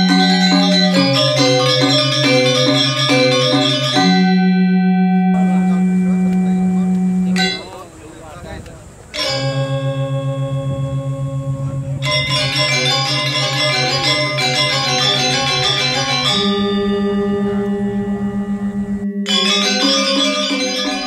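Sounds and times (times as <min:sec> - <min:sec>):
low gong tone: 0:00.0 - 0:07.8, 0:09.2 - 0:21.0
ringing bells: 0:00.0 - 0:08.4, 0:09.1 - 0:21.0.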